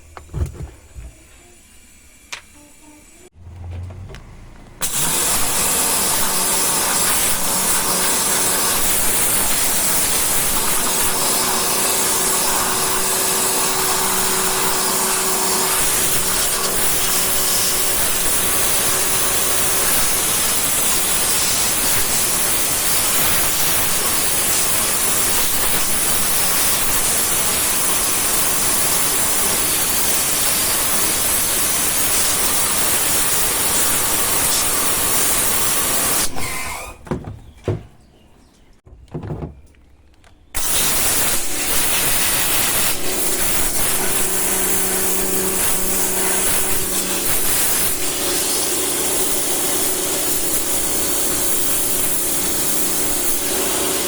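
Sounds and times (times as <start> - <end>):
pressure washer spraying water: 4.8 - 36.9, 40.6 - 54.0.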